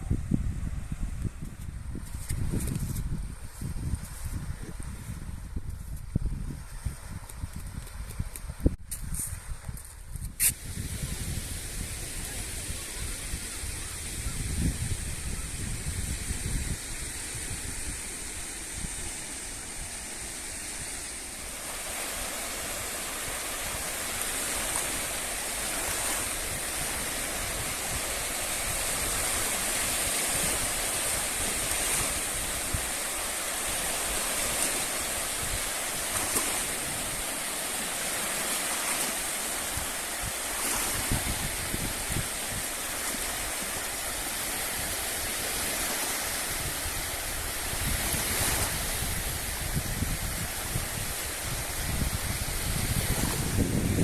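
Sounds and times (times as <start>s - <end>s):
wind buffeting microphone: 0.0s - 54.0s
sea surf rushing: 10.4s - 54.0s.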